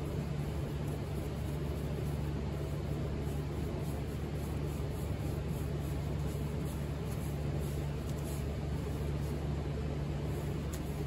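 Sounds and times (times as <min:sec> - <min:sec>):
motor humming with rushing air: 0:00.0 - 0:11.0.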